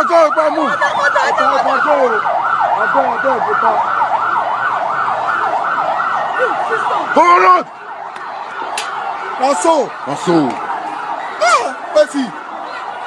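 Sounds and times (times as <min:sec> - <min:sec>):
siren yelping: 0:00.0 - 0:13.0.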